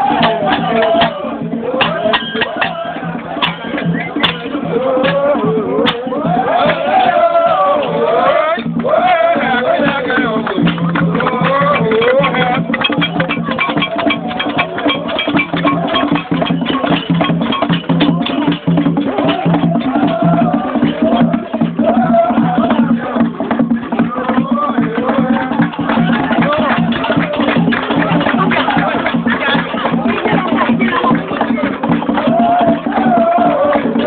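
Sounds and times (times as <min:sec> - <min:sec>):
fast dense percussion: 0:00.0 - 0:34.0
voices singing wavering melody: 0:00.0 - 0:34.0.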